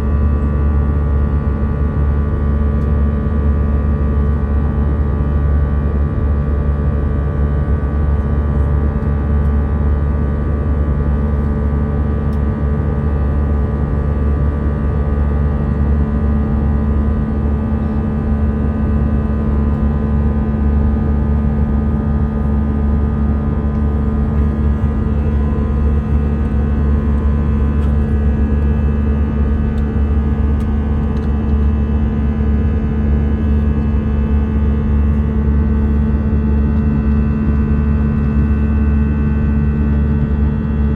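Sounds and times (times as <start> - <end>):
airliner cabin drone: 0.0 - 40.9.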